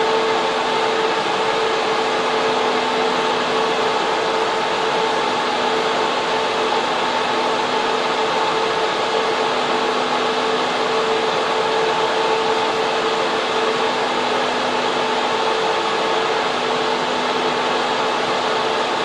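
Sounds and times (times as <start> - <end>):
cooling fans whooshing: 0.0 - 19.0.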